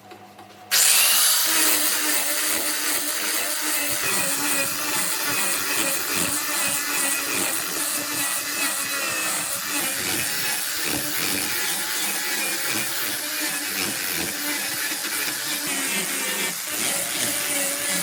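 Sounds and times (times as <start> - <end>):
power tool running: 0.7 - 18.0.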